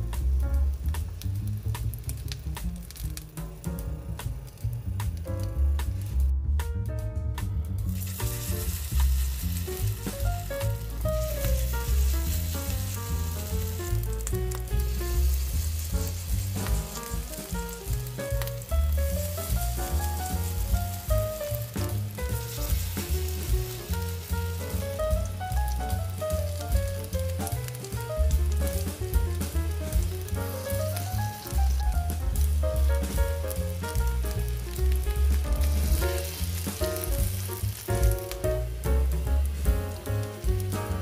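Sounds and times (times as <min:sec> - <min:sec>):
oil sizzling in a frying pan: 0:00.0 - 0:06.3, 0:07.8 - 0:41.0
background music with bass: 0:00.0 - 0:41.0.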